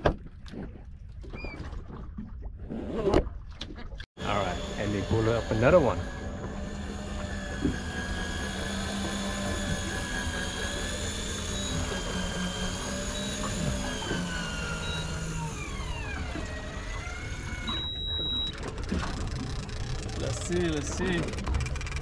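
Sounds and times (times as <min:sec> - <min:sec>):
electric fishing reel motor whine: 0:04.2 - 0:22.0.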